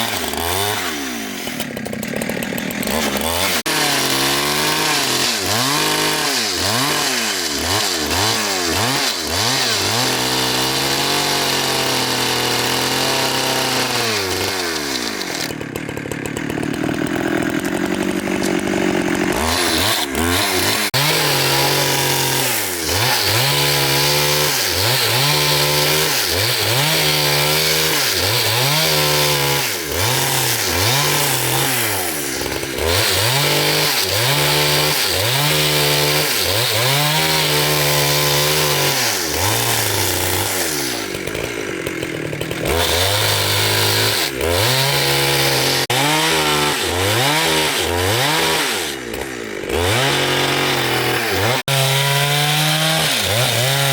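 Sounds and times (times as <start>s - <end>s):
chainsaw cutting timber: 0.0s - 53.9s.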